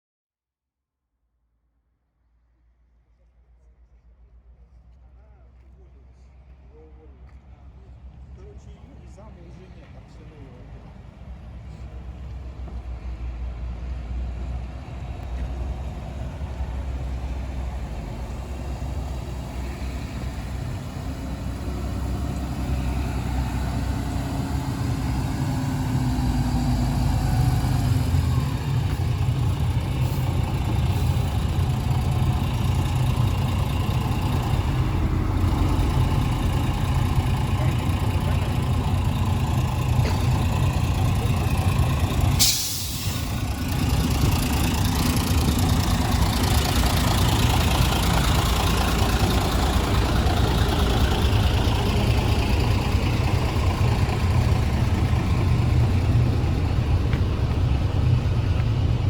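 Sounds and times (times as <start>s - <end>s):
bus diesel engine running: 3.7s - 59.0s.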